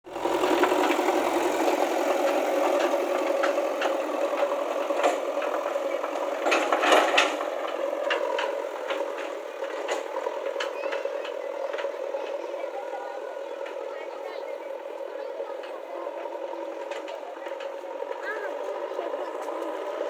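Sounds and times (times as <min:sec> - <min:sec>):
vehicle engine running with rattle: 0:00.0 - 0:20.0.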